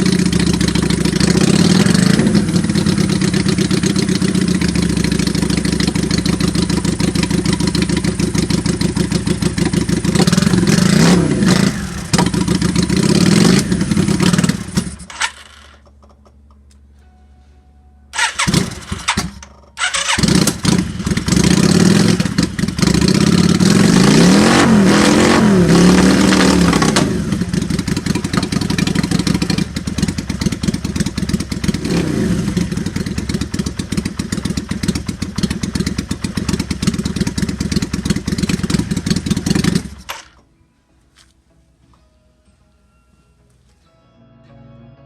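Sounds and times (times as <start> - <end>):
motorcycle engine starting and revving: 0.0 - 16.4, 18.1 - 40.5.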